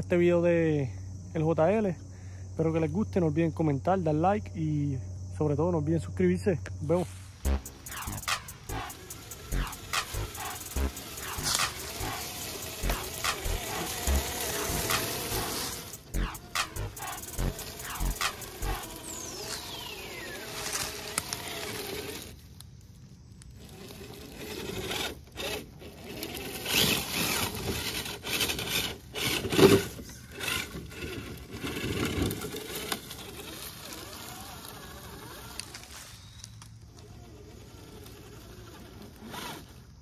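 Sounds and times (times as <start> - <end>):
small electric motor whining: 7.4 - 40.0.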